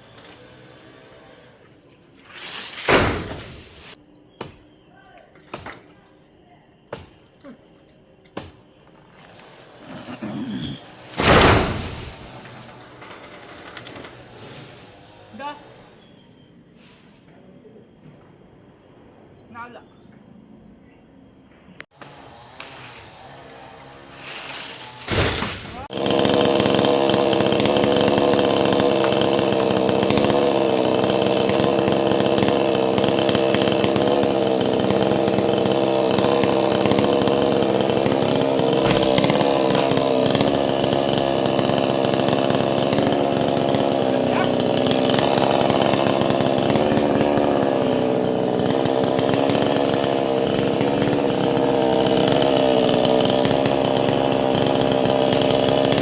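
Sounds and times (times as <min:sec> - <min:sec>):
chainsaw cutting a trunk: 0:00.0 - 0:04.6, 0:06.9 - 0:16.1, 0:21.9 - 0:56.0.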